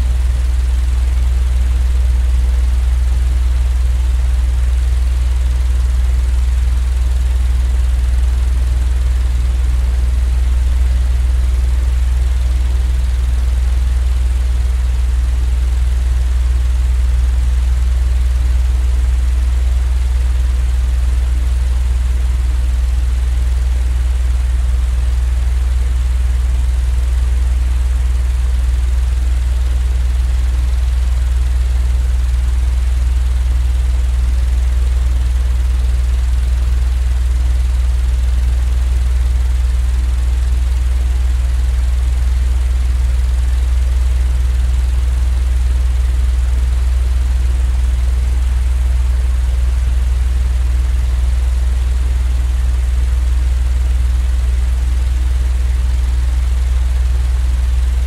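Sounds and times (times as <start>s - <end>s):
low-pitched rumbling hum: 0.0s - 58.0s.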